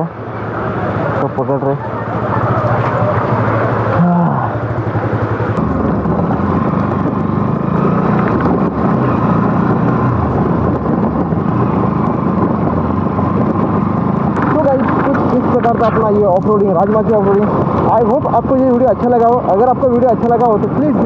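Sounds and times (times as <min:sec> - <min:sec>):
motorcycle engine running: 0:00.1 - 0:18.8.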